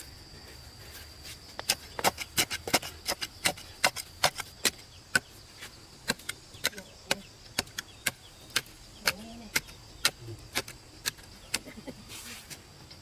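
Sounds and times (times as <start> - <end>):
high insect whine: 0.0 - 13.0.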